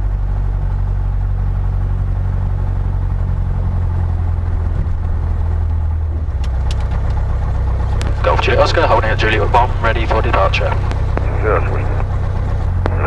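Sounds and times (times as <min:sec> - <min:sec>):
aircraft engine low drone: 0:00.0 - 0:13.0.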